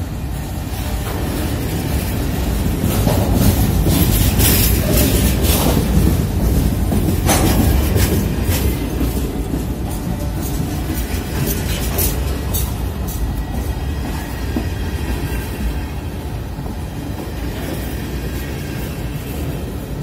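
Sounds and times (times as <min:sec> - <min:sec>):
train cars clicking and clanking: 0:00.0 - 0:20.0
train wheels rumbling on rails: 0:00.0 - 0:20.0.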